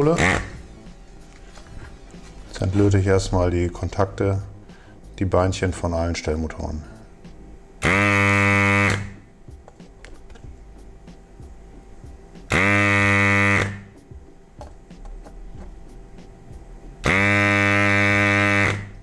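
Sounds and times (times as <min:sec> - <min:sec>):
desoldering pump buzzing: 0:00.0 - 0:19.0.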